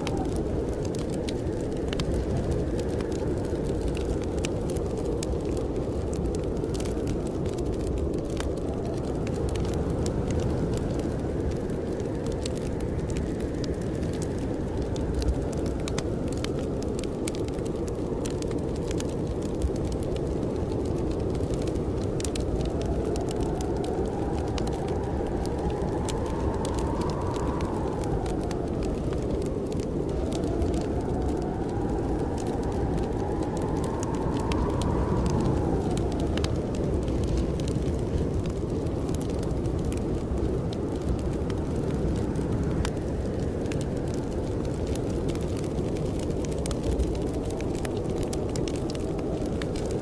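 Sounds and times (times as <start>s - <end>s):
blizzard wind rushing: 0.0s - 50.0s
wood fire crackling: 0.0s - 50.0s.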